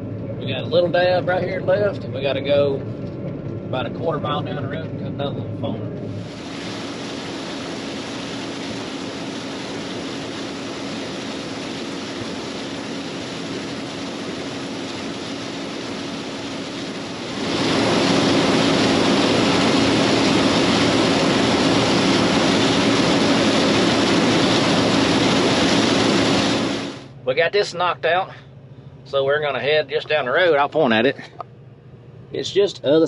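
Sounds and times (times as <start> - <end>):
combine harvester droning: 0.0 - 33.0.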